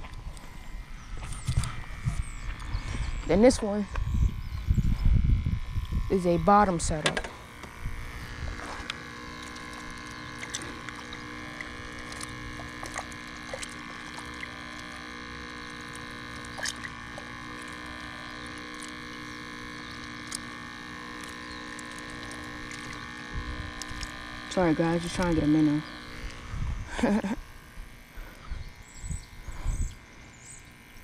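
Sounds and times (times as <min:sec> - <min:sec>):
aerator pump buzzing: 0:00.0 - 0:31.0.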